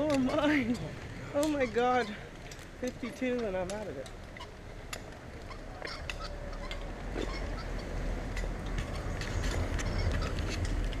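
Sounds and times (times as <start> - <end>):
footsteps on paved road: 0.0 - 11.0.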